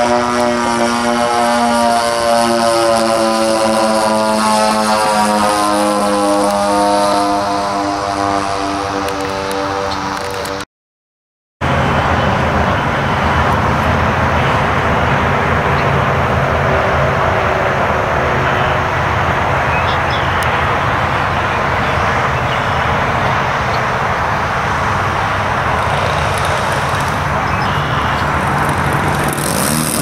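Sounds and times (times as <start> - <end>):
model airplane engines droning: 0.0 - 10.6, 11.6 - 30.0.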